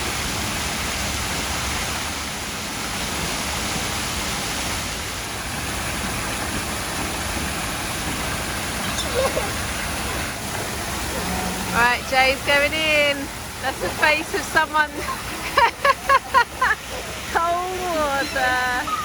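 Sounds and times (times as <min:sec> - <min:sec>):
water rushing from waterfall: 0:00.0 - 0:19.0.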